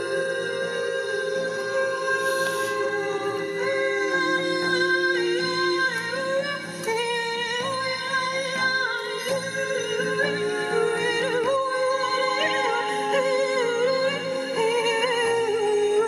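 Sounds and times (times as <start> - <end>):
person singing wordless long notes: 0.0 - 16.0.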